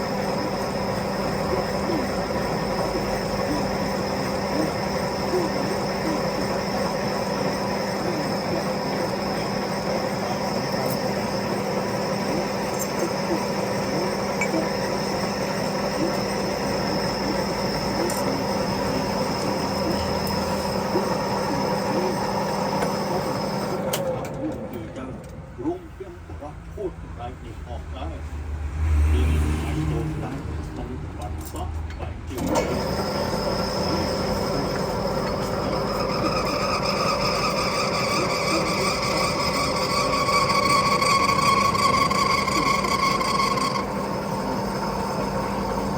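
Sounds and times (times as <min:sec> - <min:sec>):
metal lathe whining: 0:00.0 - 0:26.2, 0:32.3 - 0:45.9.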